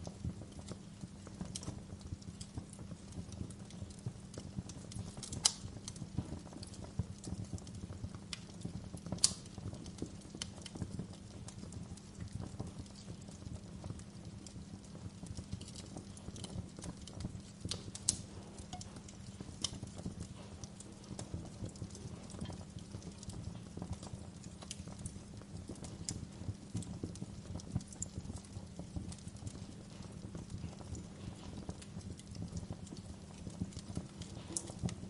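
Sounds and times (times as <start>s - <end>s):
low rumble of flames: 0.0s - 35.0s
wood fire crackling: 0.0s - 35.0s.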